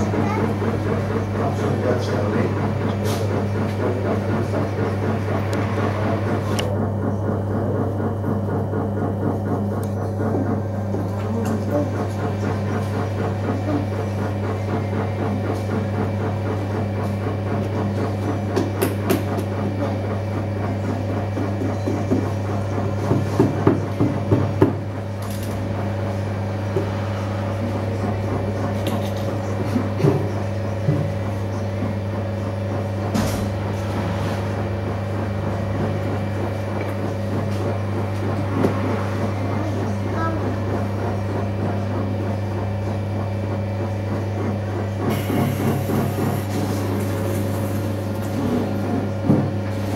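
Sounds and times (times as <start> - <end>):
potter's wheel motor hum: 0.0 - 49.9.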